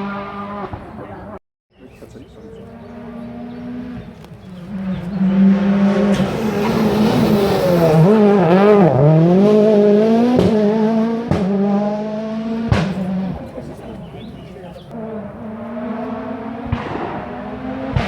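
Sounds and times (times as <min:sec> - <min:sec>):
rally car passing under throttle: 0:00.0 - 0:01.4, 0:02.4 - 0:18.0.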